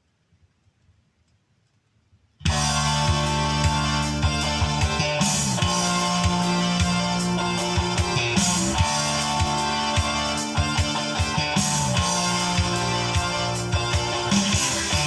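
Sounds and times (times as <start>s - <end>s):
bass guitar: 2.4s - 15.0s
guitar: 2.4s - 15.0s
drum kit beat: 2.5s - 15.0s.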